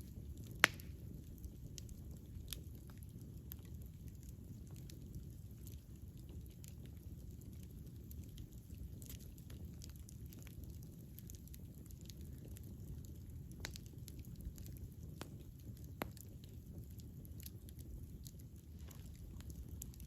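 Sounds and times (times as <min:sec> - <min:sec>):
campfire burning: 0:00.0 - 0:20.0
fire crackles and pops: 0:00.0 - 0:20.0.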